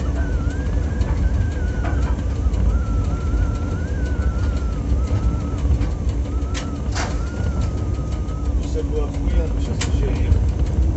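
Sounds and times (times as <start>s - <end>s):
high wavering wheel squeal: 0.0s - 10.4s
freight train rumbling past: 0.0s - 10.9s.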